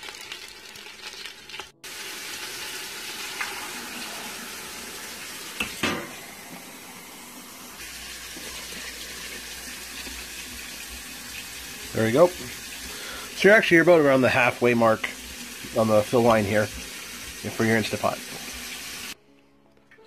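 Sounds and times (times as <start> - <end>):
water pouring into a metal pot: 0.0 - 5.8, 7.8 - 19.2.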